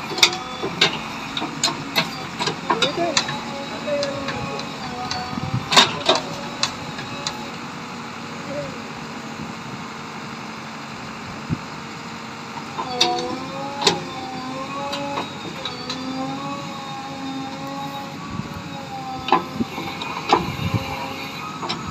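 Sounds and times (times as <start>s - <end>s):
diesel engine under load: 0.0s - 21.9s
hydraulic whine: 0.0s - 21.9s.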